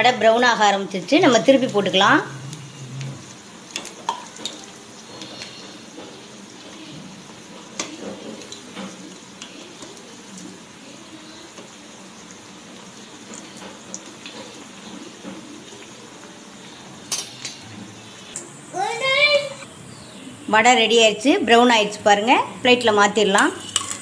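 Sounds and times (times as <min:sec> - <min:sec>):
food deep-frying in hot oil: 0:00.0 - 0:18.8, 0:19.9 - 0:24.0.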